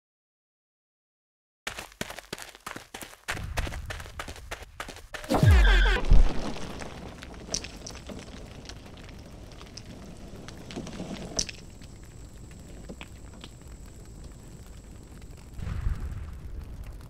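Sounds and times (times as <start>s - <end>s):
wreckage crackling and popping: 1.7s - 17.0s.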